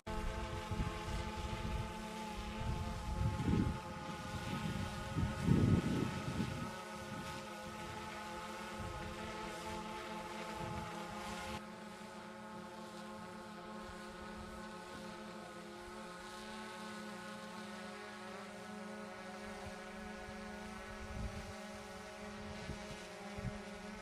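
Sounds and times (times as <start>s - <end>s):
motor humming steadily: 0.0s - 24.0s.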